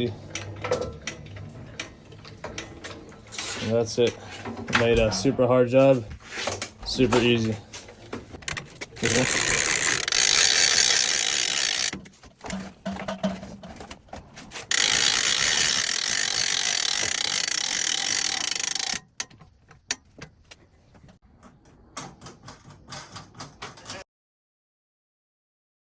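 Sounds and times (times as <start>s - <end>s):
powered dolly ratcheting: 0.0s - 24.0s
clicks and knocks: 0.3s - 24.0s.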